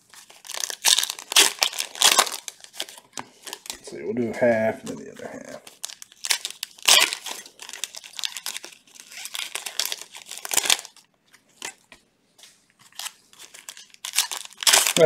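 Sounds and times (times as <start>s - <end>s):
foil wrappers tearing and crinkling: 0.0s - 3.9s, 4.8s - 11.0s, 12.8s - 15.0s.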